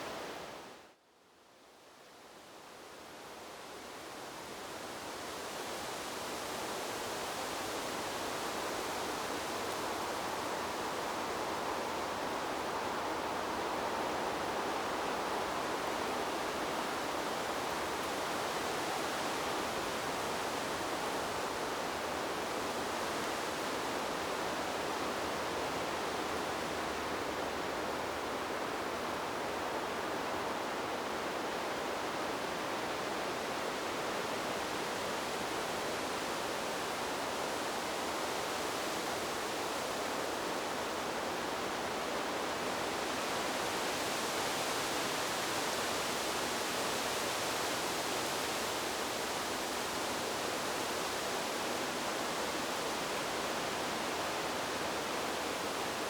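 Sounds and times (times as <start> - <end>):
wind rushing through trees: 0.0 - 56.0.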